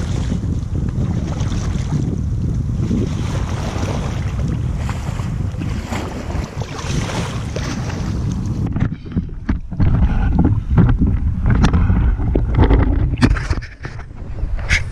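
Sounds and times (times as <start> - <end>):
water splashing against hull: 0.0 - 14.9
wind buffeting microphone: 0.0 - 14.9.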